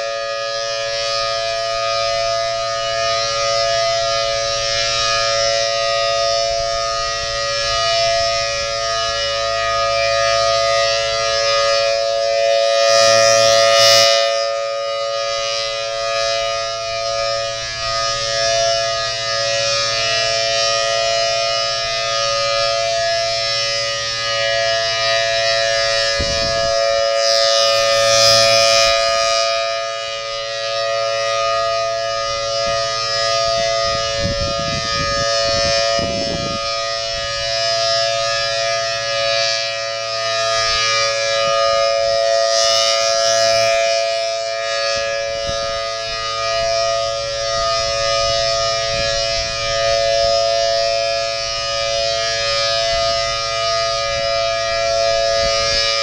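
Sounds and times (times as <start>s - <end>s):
warning siren steady tone: 0.0s - 56.0s.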